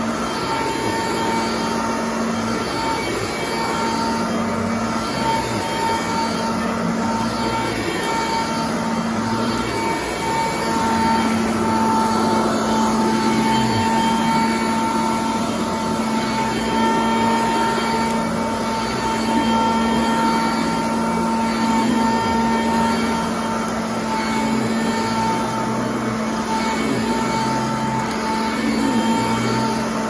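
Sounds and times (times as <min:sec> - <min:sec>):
vacuum cleaner motor whining: 0:00.0 - 0:30.0.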